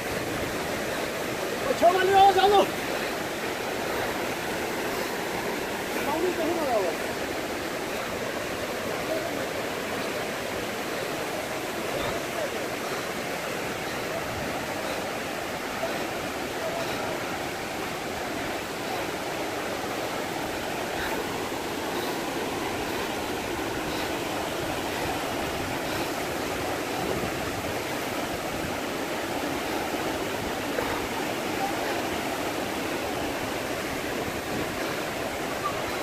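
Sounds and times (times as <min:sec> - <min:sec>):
river rushing over rapids: 0:00.0 - 0:36.0.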